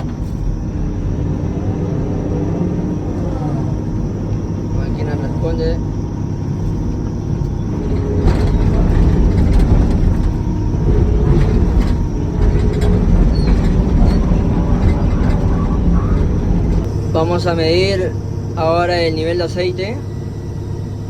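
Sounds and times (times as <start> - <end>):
excavator diesel engine under load: 0.0 - 21.0.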